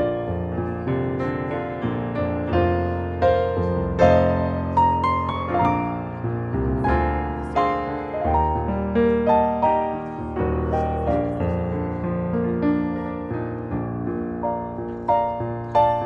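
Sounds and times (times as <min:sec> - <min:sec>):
piano chords and melody: 0:00.0 - 0:16.0.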